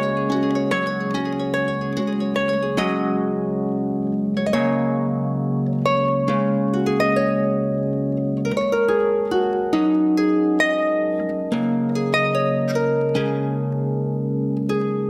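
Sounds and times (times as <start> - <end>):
harp notes with long reverb: 0.0 - 15.0.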